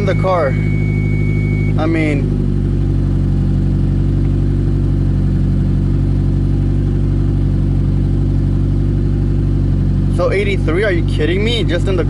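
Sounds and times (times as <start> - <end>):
car engine and loud exhaust: 0.0 - 12.0.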